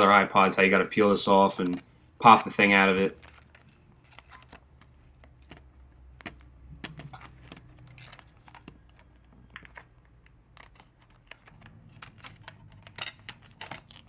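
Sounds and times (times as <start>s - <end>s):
plastic film peeling crackles: 1.0s - 14.0s.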